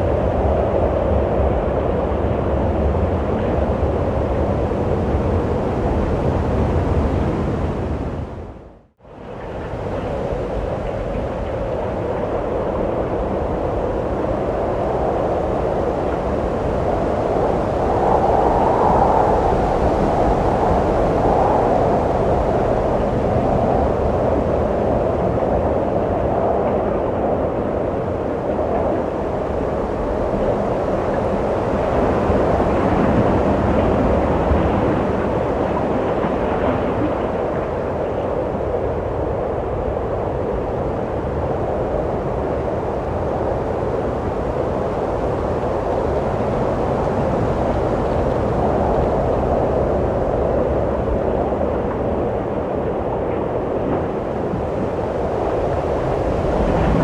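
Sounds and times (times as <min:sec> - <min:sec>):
wind blowing: 0:00.0 - 0:57.0.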